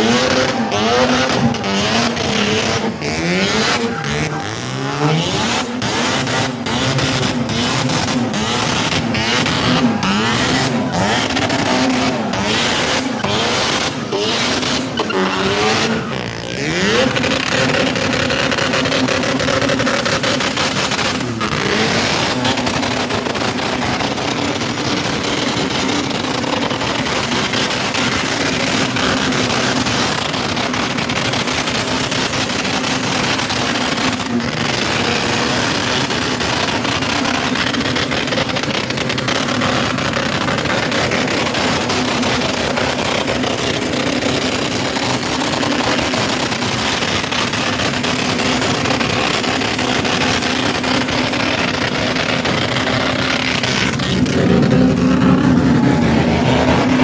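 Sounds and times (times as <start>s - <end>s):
rotary engine revving: 0.0s - 57.0s.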